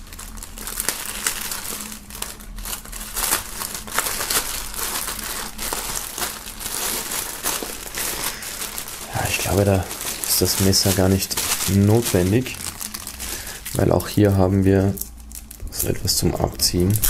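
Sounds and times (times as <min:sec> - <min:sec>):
plastic film crinkling: 0:00.0 - 0:17.0.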